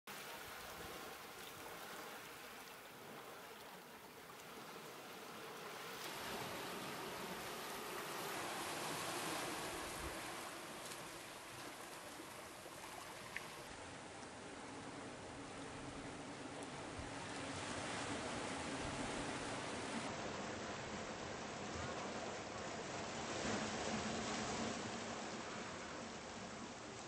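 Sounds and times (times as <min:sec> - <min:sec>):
small waves washing onto sand: 0:00.1 - 0:27.0.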